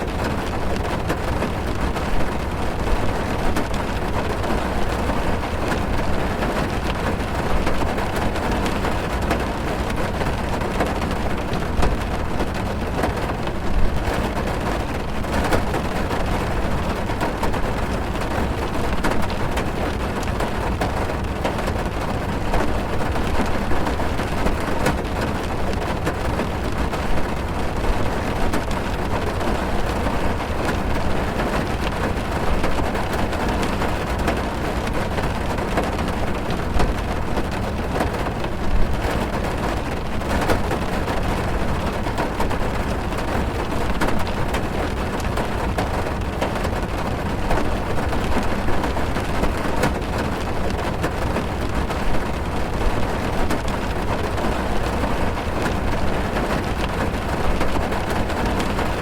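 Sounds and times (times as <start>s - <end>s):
heavy rain on car roof: 0.0s - 59.0s.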